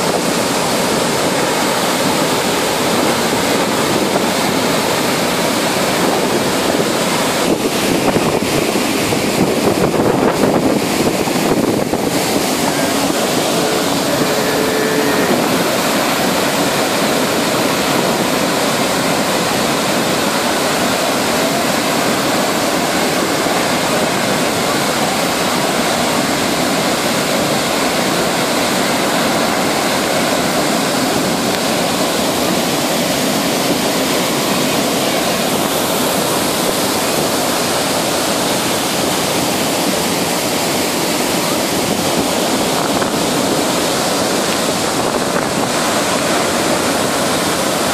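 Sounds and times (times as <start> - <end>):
waterfall crashing onto rocks: 0.0 - 47.9.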